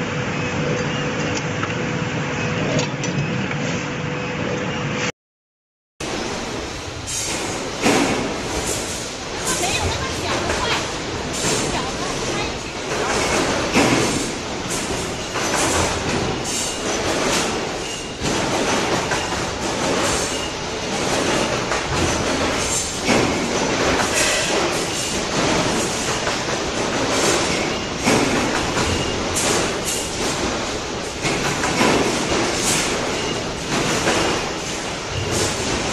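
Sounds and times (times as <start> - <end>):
loud factory din: 0.0 - 5.1, 6.0 - 35.9.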